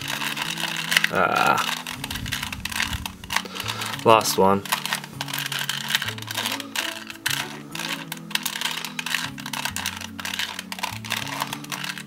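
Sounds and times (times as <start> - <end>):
low background music: 0.0 - 12.0
plastic puzzle cube clicking: 0.0 - 12.0.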